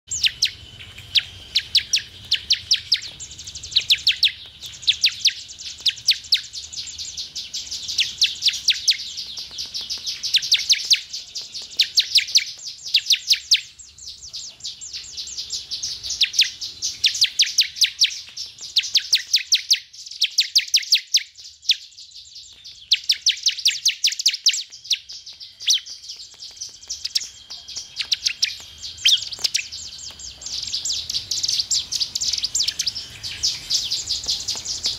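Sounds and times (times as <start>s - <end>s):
bird singing sharp high chirps: 0.1s - 34.9s.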